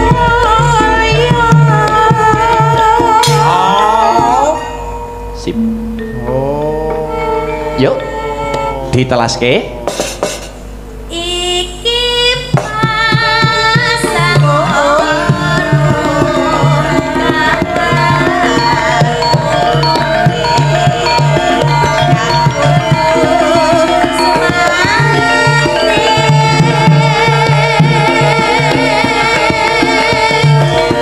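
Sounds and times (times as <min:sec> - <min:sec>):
woman singing through a microphone: 0:00.0 - 0:04.7, 0:06.7 - 0:09.0, 0:11.1 - 0:31.0
hand drum playing: 0:00.0 - 0:10.9, 0:12.5 - 0:31.0
gamelan music: 0:00.0 - 0:11.0, 0:13.1 - 0:31.0.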